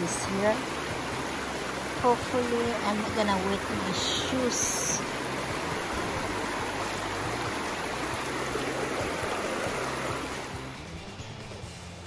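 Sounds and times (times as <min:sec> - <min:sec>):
water rushing over rocks: 0:00.0 - 0:11.0
quiet background music: 0:00.0 - 0:12.0.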